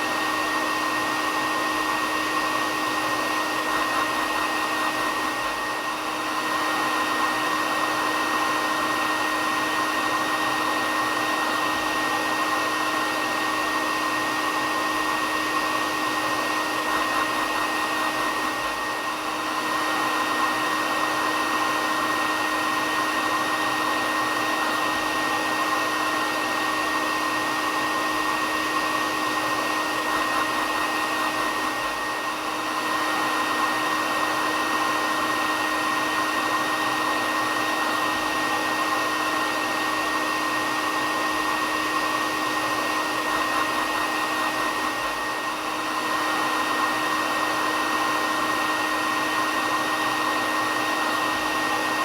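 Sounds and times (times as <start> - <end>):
hair dryer running: 0.0 - 52.0.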